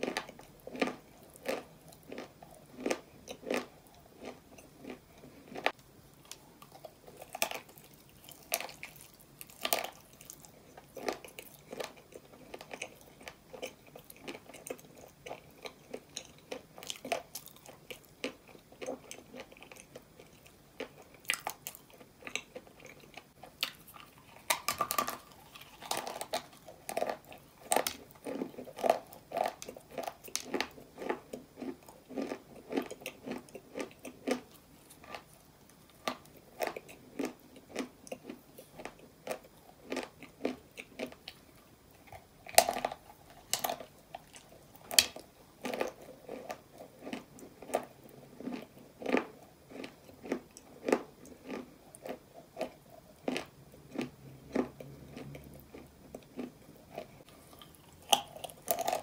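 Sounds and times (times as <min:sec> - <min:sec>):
person chewing and crunching: 0:00.0 - 0:59.0.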